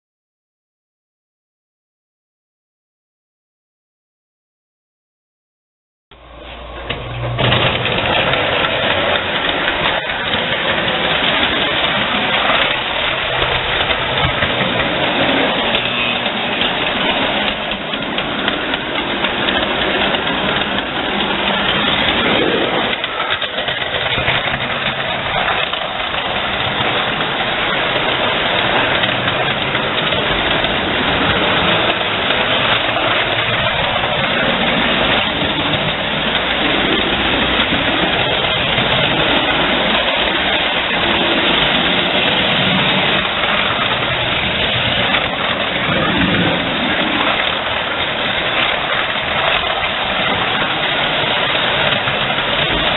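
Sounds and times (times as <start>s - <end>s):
model train running on track: 6.2s - 52.9s.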